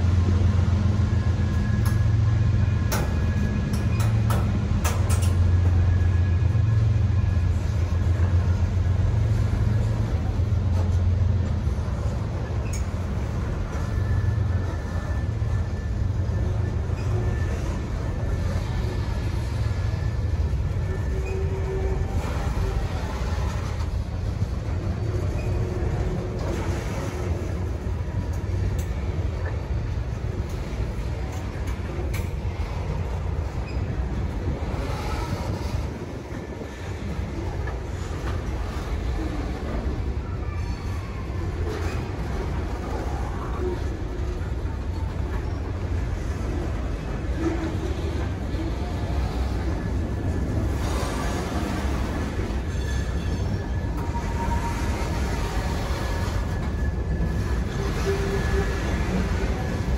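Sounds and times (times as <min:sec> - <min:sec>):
freight train rumble: 0:00.0 - 0:59.9.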